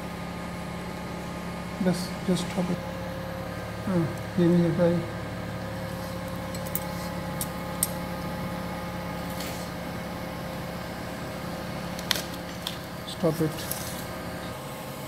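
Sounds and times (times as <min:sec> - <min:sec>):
electrical hum of equipment: 0:00.0 - 0:15.0.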